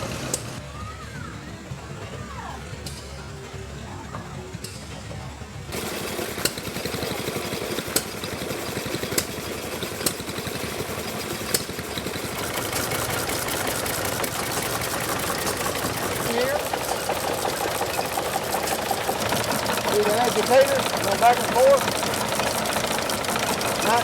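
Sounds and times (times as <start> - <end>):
old engine clattering: 4.0 - 24.0.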